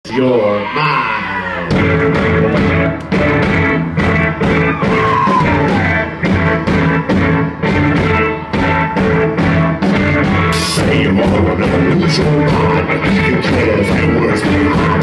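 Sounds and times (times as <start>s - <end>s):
electric guitar: 0.6s - 15.0s
live rock band playing: 0.6s - 15.0s
drums beating: 1.6s - 15.0s.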